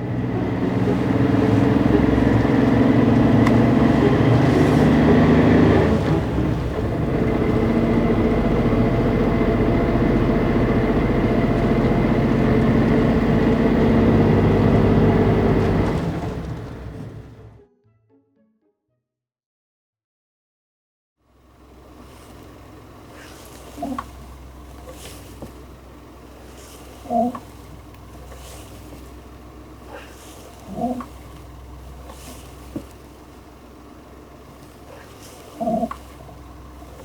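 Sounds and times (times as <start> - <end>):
car engine running: 0.0 - 17.6, 21.3 - 37.0.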